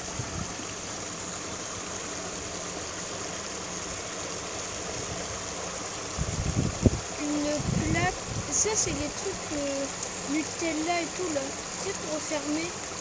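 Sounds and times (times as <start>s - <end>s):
water rushing over cascade: 0.0s - 13.0s.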